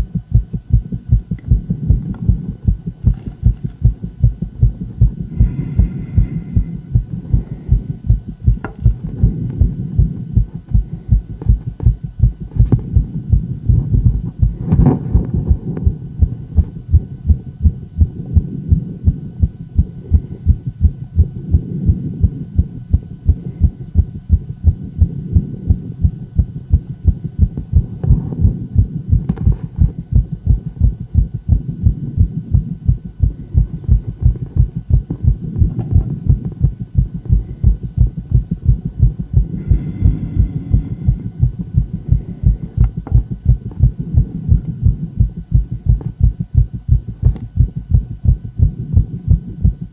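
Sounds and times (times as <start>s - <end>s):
fast heartbeat: 0.0s - 49.9s.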